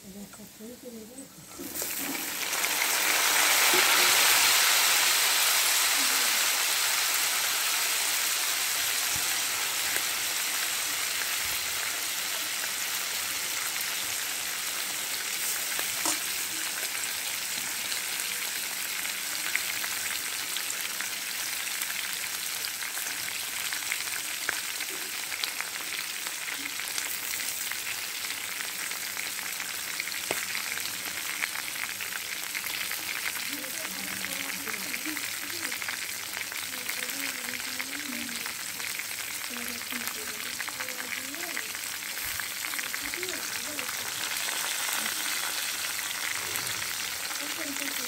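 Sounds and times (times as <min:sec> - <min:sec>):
chicken sizzling in hot oil: 0:00.1 - 0:48.0.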